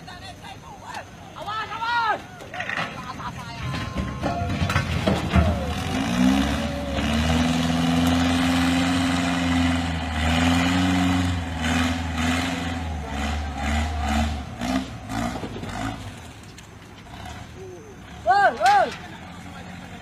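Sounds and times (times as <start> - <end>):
heavy vehicle engine revving: 3.6 - 20.0.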